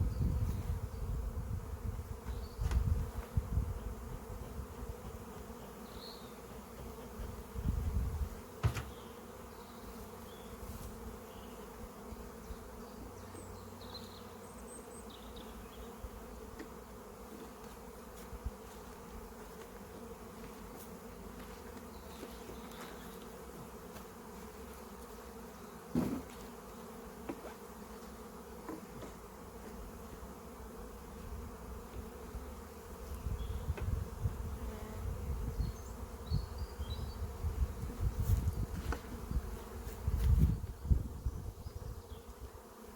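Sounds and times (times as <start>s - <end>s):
bees buzzing: 0.0s - 42.9s.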